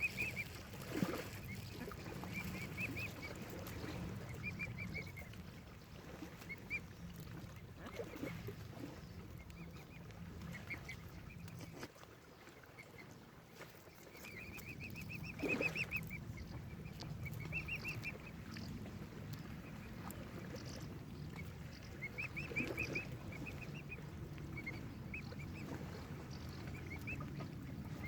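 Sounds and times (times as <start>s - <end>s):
waterbirds peeping: 0.0s - 28.0s.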